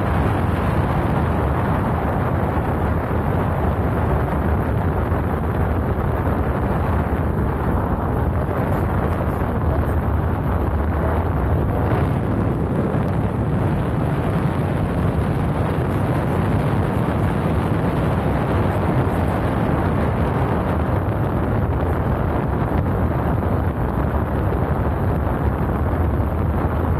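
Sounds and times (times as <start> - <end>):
paramotor engine running: 0.0 - 26.9
wind on microphone: 0.0 - 26.9.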